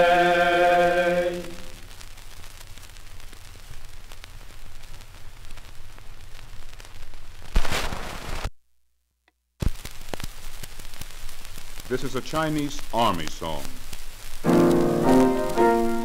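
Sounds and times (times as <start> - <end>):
record crackle and ticks: 0.0 - 8.6, 9.2 - 16.0.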